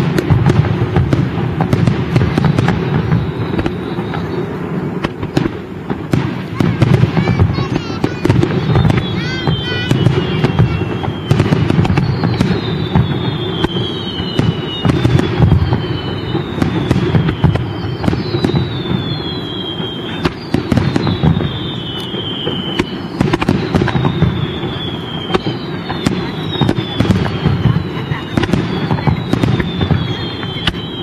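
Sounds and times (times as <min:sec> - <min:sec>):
fireworks bangs: 0:00.0 - 0:31.0
fireworks crackling: 0:00.0 - 0:31.0
high falling whistle: 0:02.3 - 0:04.7, 0:08.5 - 0:31.0.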